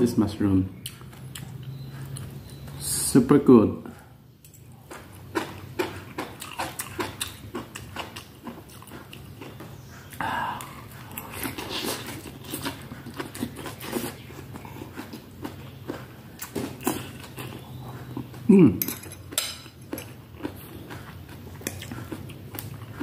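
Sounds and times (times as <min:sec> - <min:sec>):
steady low hum: 0:00.0 - 0:23.0
wet chewing: 0:00.7 - 0:02.8, 0:04.4 - 0:23.0.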